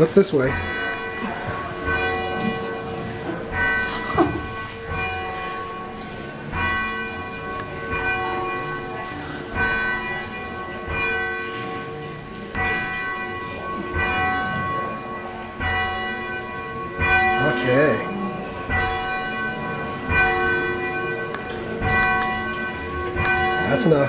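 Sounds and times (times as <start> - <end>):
church bell ringing: 0.0 - 24.0.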